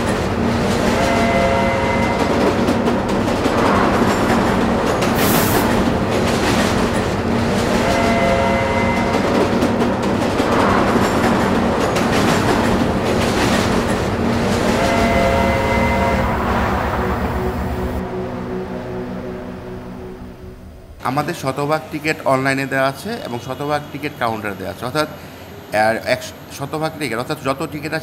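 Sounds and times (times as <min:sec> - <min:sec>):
diesel locomotive engine humming: 0:00.0 - 0:25.7.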